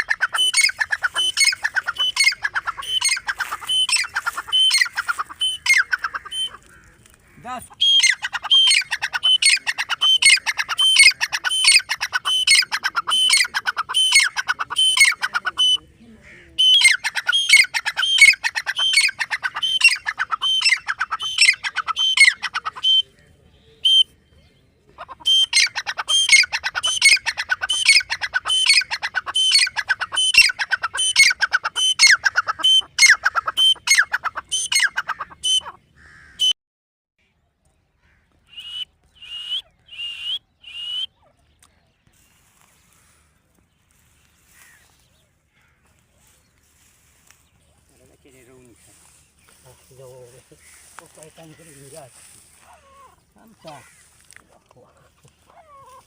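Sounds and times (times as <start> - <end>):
bird calling harsh notes: 0.0 - 36.6, 38.0 - 41.3, 42.1 - 56.0.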